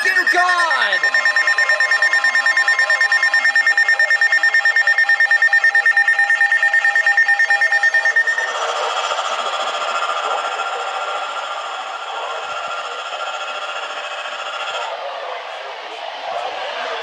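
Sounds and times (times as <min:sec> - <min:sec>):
rapid electronic alert beeps: 0:00.0 - 0:14.9.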